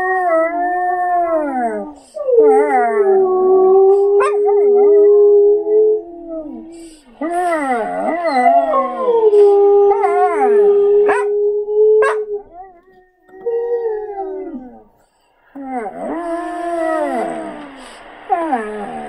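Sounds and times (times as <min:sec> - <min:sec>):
recorded dog howls: 0:00.0 - 0:14.9, 0:15.6 - 0:19.0
dog howling: 0:00.0 - 0:15.0, 0:15.6 - 0:19.0.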